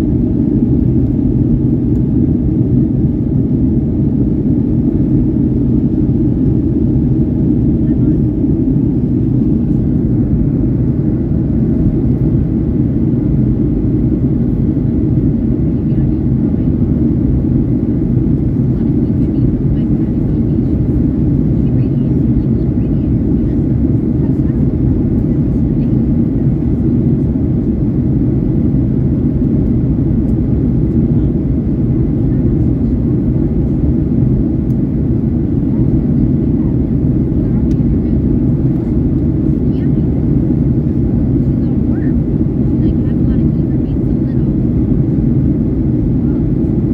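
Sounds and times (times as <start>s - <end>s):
jet engines low rumble in cabin: 0.0s - 46.9s.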